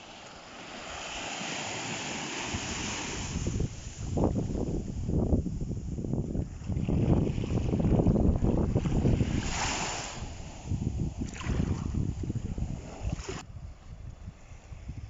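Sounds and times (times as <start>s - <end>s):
small waves washing over sand: 0.0s - 15.0s
wind buffeting microphone: 0.8s - 15.0s.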